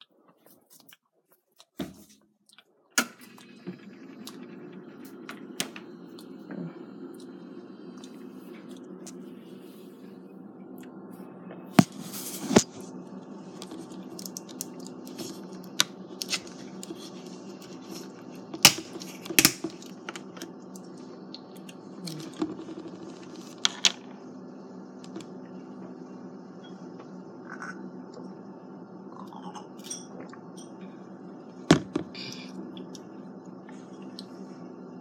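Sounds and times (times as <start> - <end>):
steady low hum: 3.0 - 35.0.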